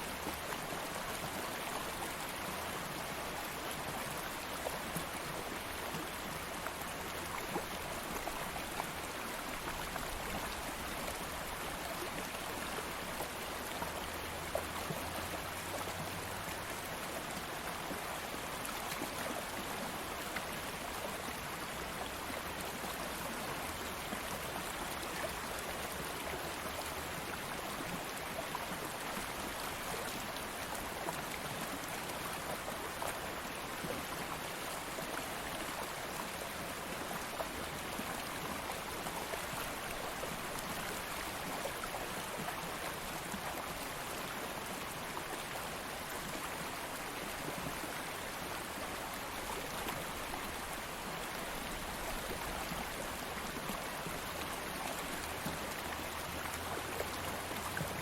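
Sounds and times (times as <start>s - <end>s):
stream of water flowing: 0.0s - 58.0s.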